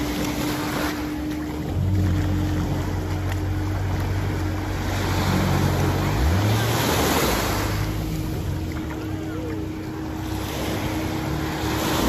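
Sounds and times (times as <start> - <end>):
engine running: 0.0 - 12.0
waves washing onto a beach: 0.0 - 12.0.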